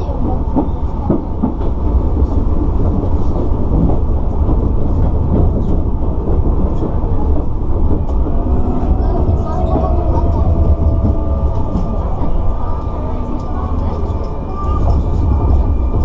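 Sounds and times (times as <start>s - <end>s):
low rumble of train wheels: 0.0s - 16.0s
rail joint clicks: 0.0s - 16.0s.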